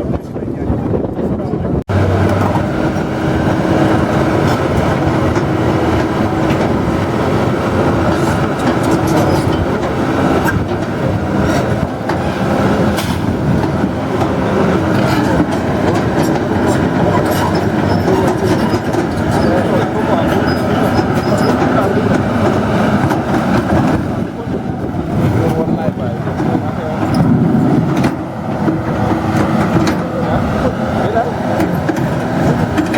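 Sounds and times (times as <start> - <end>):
diesel engine under load: 0.0 - 32.9
metallic clanks and knocks: 2.0 - 24.2, 25.4 - 32.9.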